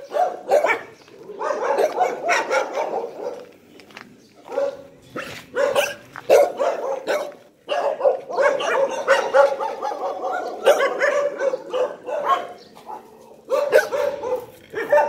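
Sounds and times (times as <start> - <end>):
dogs barking: 0.0 - 3.6, 4.4 - 15.0.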